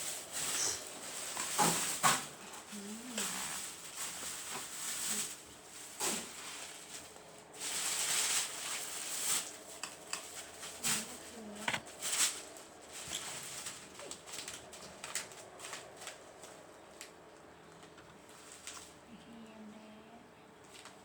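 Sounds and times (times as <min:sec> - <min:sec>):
rustling and scratching: 0:00.0 - 0:19.0.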